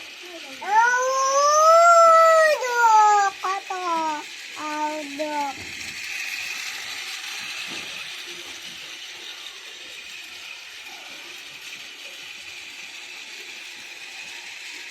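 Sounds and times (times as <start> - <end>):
toy train motor whirring: 0.0 - 14.9.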